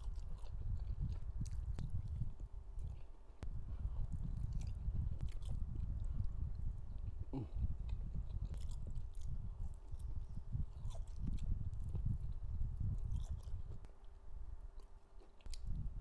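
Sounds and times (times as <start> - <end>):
person chewing food: 0.0 - 15.9.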